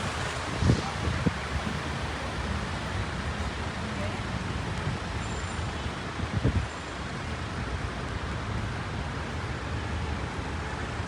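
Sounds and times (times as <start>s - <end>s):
rain on a street: 0.0s - 11.0s.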